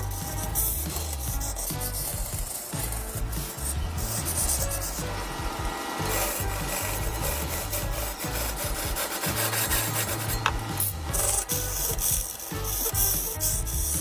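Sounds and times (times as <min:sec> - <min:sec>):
chisel scraping spinning log: 0:00.0 - 0:14.0
lathe low hum: 0:00.0 - 0:14.0.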